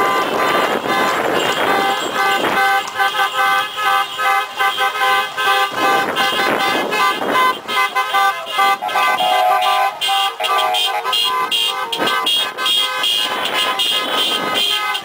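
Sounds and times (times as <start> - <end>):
car horns honking: 0.0 - 15.0
traffic noise: 0.0 - 15.0.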